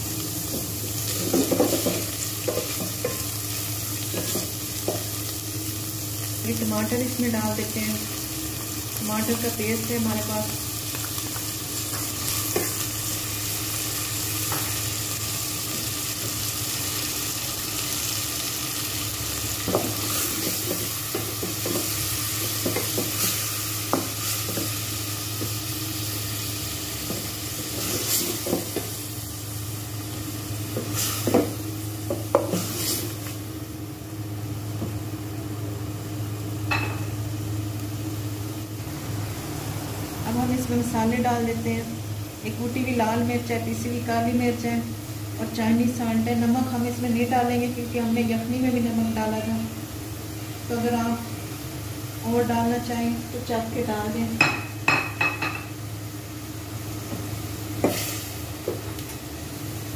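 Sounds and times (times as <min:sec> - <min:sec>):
food sizzling in hot oil: 0:00.0 - 0:35.4, 0:36.0 - 0:59.9.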